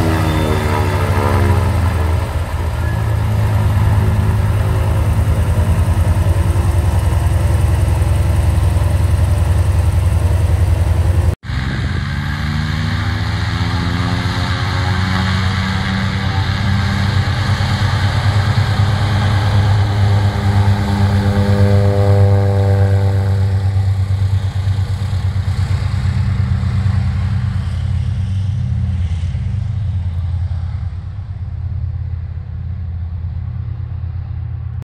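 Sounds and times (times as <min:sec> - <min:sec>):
radial engine plane taxiing: 0:00.0 - 0:34.8.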